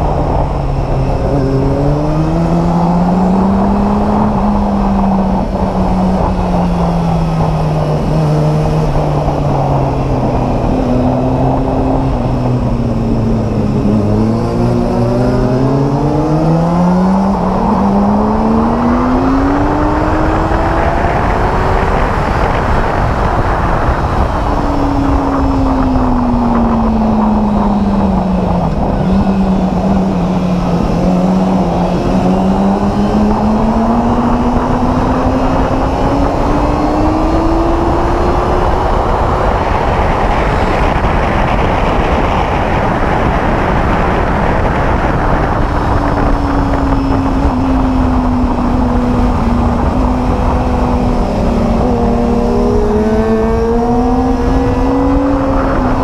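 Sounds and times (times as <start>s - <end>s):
motorcycle engine under hard riding: 0.0s - 56.0s
wind noise: 0.0s - 56.0s.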